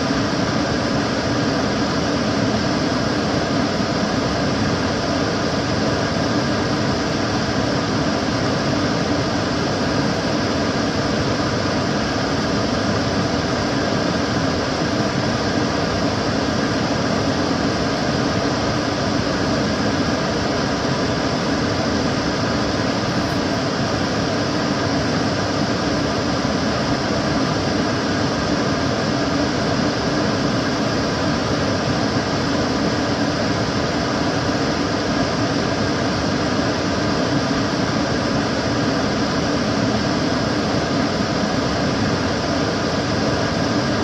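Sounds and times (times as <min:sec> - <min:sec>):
extractor fan running: 0:00.0 - 0:44.0.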